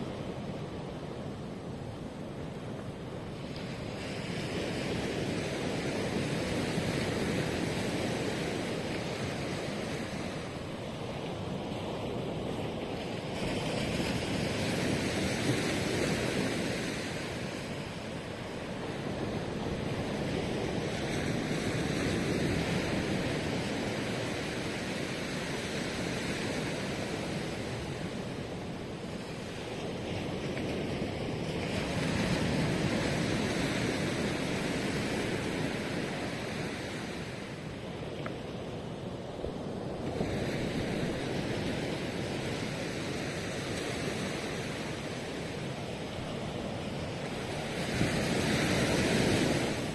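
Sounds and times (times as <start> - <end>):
ocean surf breaking on beach: 0.0 - 49.9.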